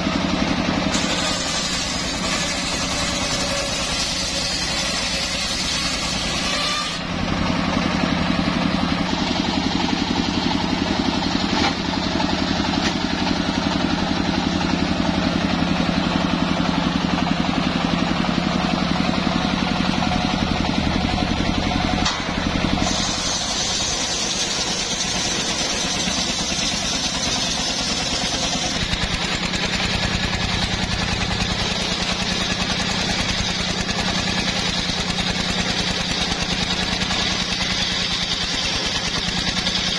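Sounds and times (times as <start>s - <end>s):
engine droning: 0.0s - 39.9s
circular saw ripping wood: 0.6s - 15.2s, 21.9s - 39.9s.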